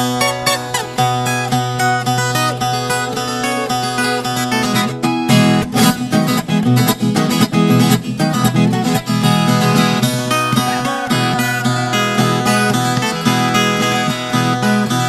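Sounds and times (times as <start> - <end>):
ten-string guitar plucked and strummed: 0.0 - 15.0.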